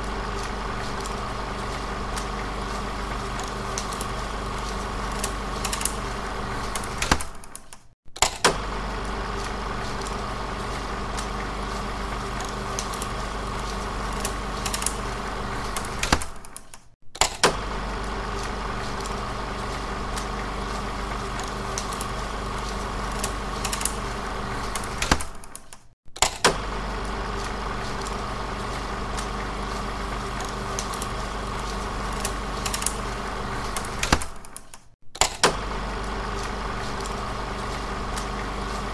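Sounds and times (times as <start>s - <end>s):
film projector whirring clatter: 0.0s - 38.9s.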